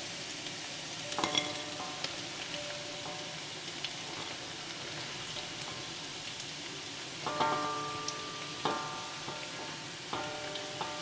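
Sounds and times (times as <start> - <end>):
oil popping and crackling: 0.0 - 11.0
oil sizzling in a pan: 0.0 - 11.0.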